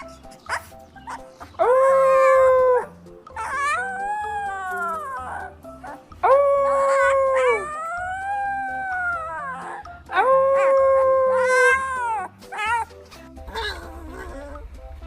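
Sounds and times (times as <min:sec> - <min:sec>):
background music: 0:00.0 - 0:15.0
dog howling: 0:01.6 - 0:12.9, 0:13.5 - 0:14.6.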